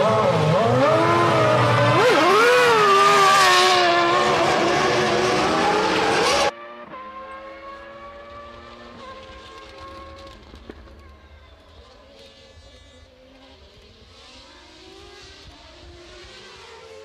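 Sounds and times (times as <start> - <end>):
racing car engine at high revs: 0.0 - 10.7, 13.0 - 17.0.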